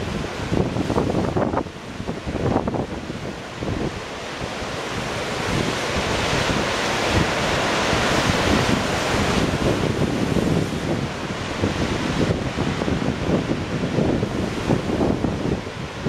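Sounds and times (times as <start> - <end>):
waves breaking over rocks: 0.0 - 16.0
wind buffeting microphone: 0.0 - 16.0.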